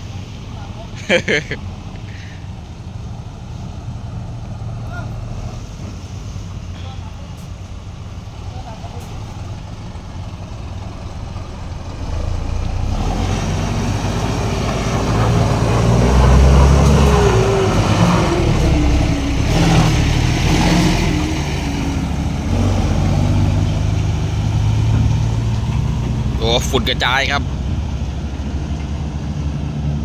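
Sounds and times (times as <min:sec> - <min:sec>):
truck diesel engine rumbling: 0:00.0 - 0:30.0.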